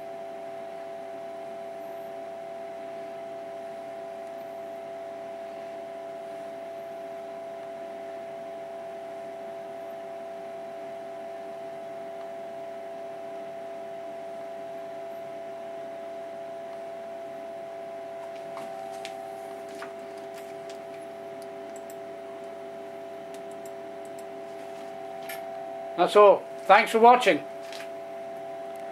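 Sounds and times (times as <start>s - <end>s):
electrical hum with tones: 0.0s - 28.9s.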